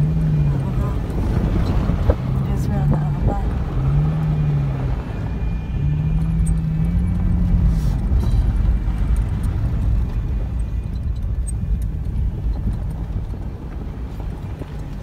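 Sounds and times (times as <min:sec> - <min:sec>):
vehicle rumbling on dirt track: 0:00.0 - 0:15.0.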